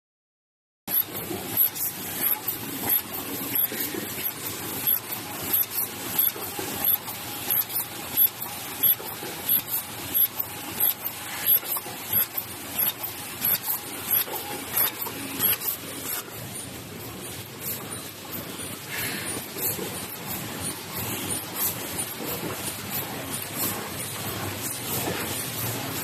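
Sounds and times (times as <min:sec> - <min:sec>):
machine running with rhythmic beat: 0:00.9 - 0:26.0.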